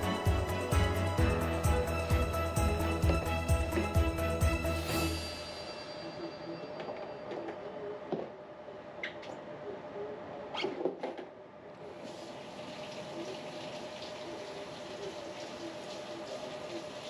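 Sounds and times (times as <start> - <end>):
air conditioner hum: 0.0 - 17.0.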